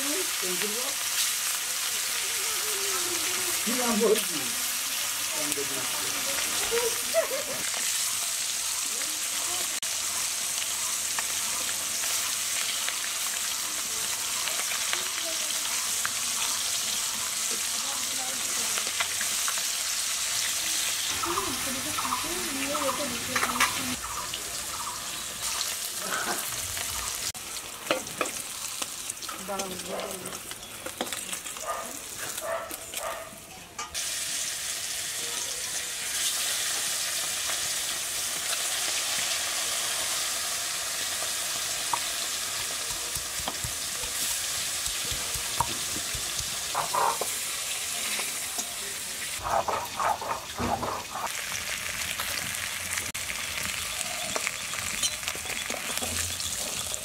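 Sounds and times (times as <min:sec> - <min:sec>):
fish frying in oil: 0:00.0 - 0:33.1, 0:33.8 - 0:57.0.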